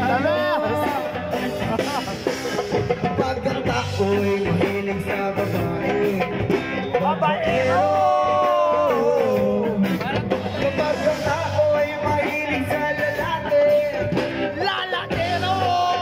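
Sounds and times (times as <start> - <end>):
live band playing loudly: 0.0 - 16.0.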